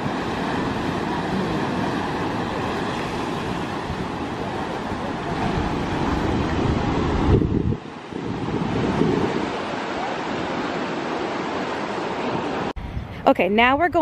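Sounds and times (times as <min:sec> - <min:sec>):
surf breaking over rocks: 0:00.0 - 0:12.7
wind on microphone: 0:00.0 - 0:13.9.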